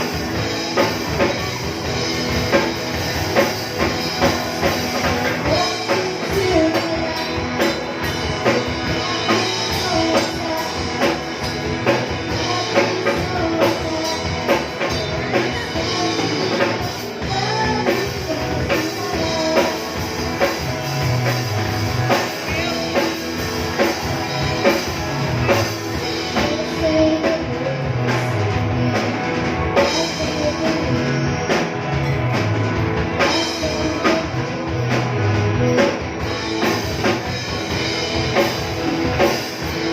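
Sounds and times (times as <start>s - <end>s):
bass line: 0.0s - 39.9s
person singing lead vocal: 0.0s - 39.9s
rock band playing live: 0.0s - 39.9s.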